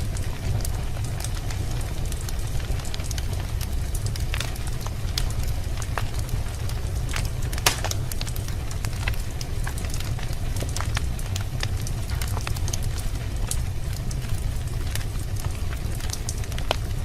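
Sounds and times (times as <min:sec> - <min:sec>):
wood fire crackling: 0:00.0 - 0:17.0
fire pops: 0:00.1 - 0:17.0.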